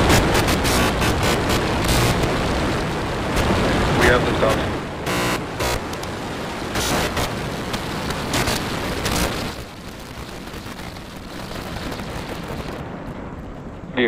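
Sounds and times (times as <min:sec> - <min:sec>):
crackling rocket engine rumble: 0:00.0 - 0:14.0.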